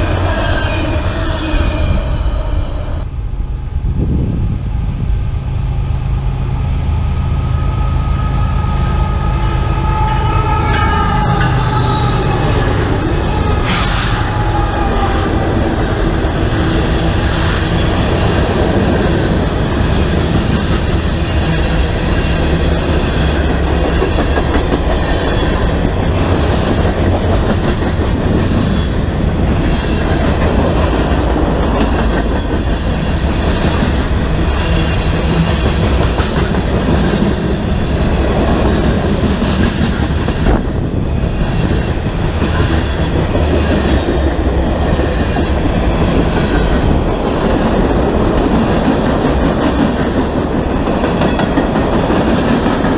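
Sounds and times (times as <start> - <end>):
freight train wheels on rails: 0.0 - 52.9.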